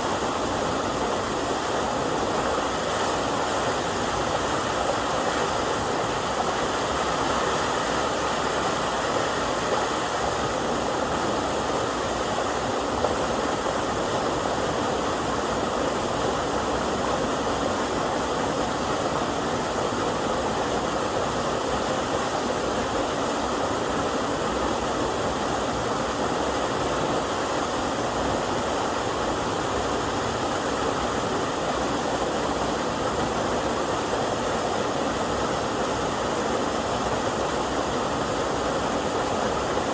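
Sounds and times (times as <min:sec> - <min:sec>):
small waterfall pouring: 0:00.0 - 0:39.9.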